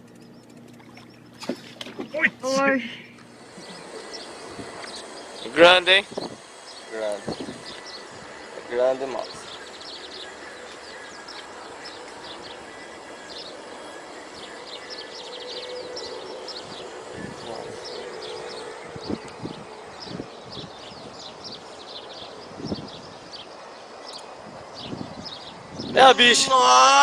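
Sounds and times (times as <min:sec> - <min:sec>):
small birds chirping: 0:00.0 - 0:26.5.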